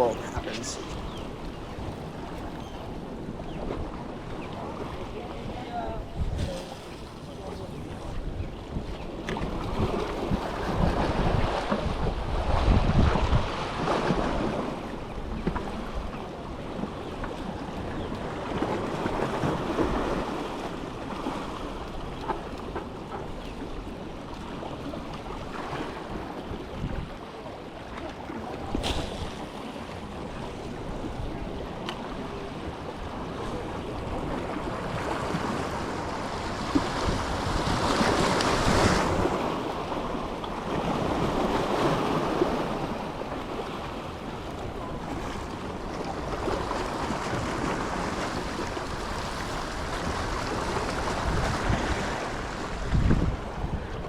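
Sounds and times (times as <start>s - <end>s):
wind buffeting microphone: 0.0s - 18.4s, 28.4s - 54.0s
waves breaking against jetty: 0.0s - 54.0s.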